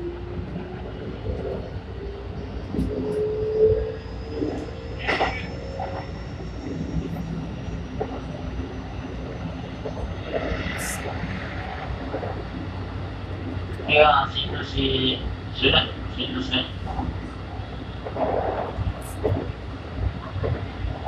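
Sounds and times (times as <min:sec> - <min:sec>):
train equipment low rumble: 0:00.0 - 0:21.0.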